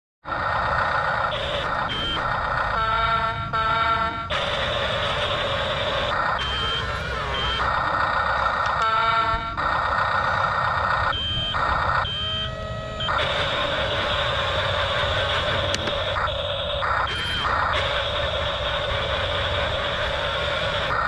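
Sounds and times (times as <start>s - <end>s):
toy bulldozer engine noise: 0.2s - 21.0s
steady whining tone: 0.3s - 21.0s.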